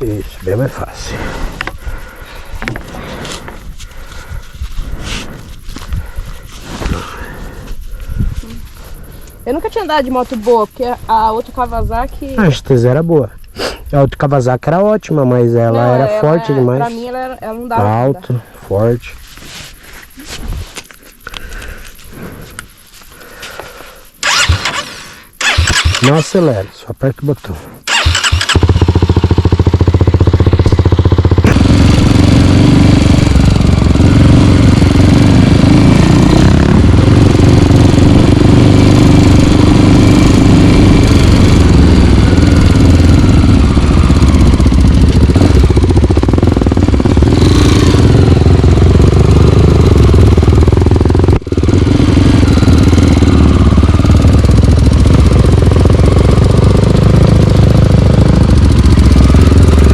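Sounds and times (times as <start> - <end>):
dirt bike engine running: 0.0 - 13.0, 15.3 - 26.6, 27.8 - 59.9.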